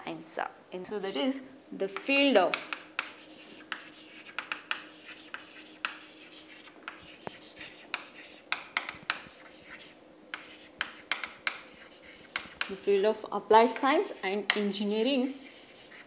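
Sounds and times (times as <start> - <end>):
chalk tapping and scratching: 2.0 - 13.0, 13.7 - 16.0.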